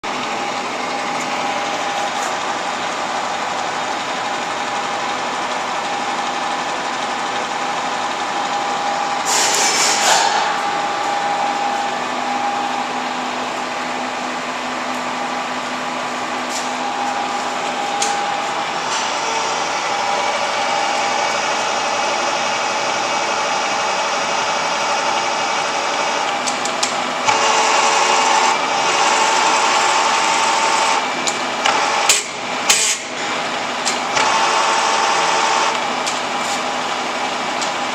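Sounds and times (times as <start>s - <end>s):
milling machine whine: 0.0s - 37.9s.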